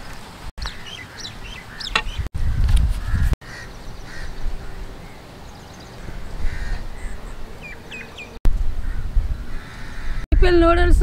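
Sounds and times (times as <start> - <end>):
birds calling: 0.0 - 10.5
wind gusts on microphone: 0.0 - 11.0.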